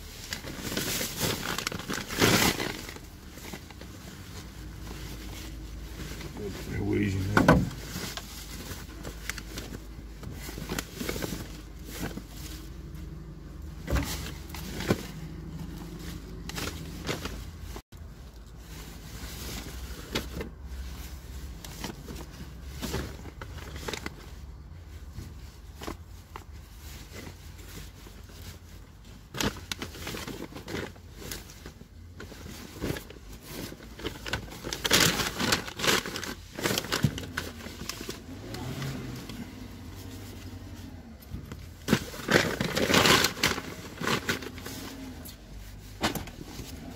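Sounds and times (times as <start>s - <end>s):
plastic bags rustling and crinkling: 0.0s - 46.9s.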